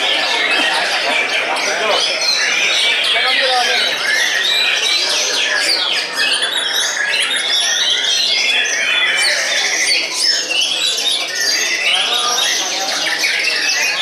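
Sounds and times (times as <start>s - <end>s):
other birds singing: 0.0s - 14.0s.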